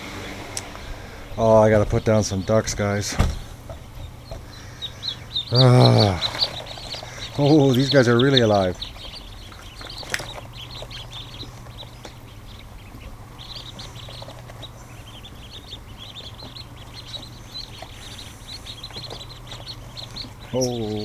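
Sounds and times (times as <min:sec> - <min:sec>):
ducklings peeping: 0:00.0 - 0:21.0
steady low hum: 0:00.0 - 0:21.0.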